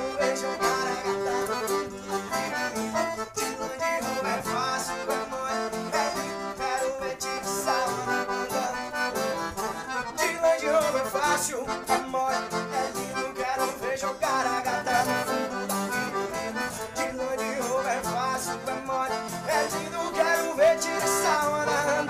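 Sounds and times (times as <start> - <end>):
piano accordion: 0.0 - 22.0.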